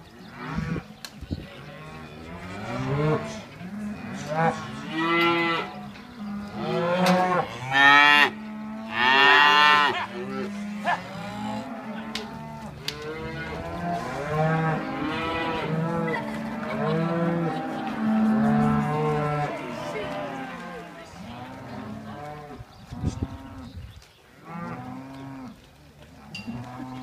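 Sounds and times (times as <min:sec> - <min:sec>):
cattle mooing: 0:01.8 - 0:23.7, 0:26.3 - 0:27.0.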